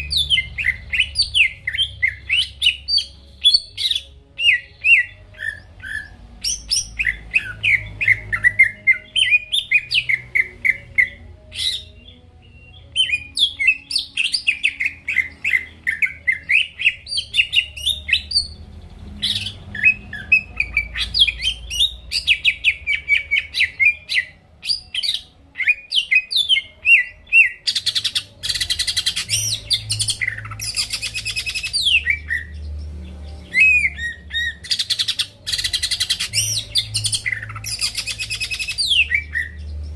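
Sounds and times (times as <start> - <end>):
bird singing fast chirps: 0.0 - 39.9.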